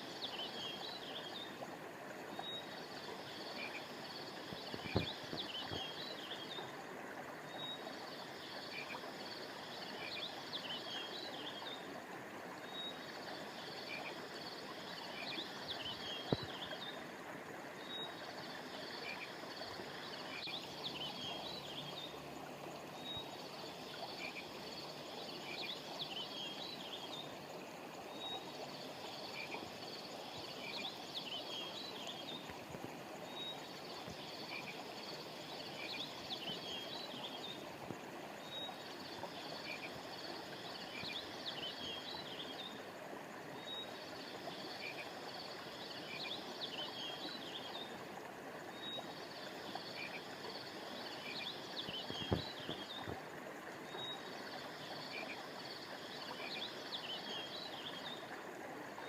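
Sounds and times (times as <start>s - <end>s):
flowing stream: 0.0s - 59.0s.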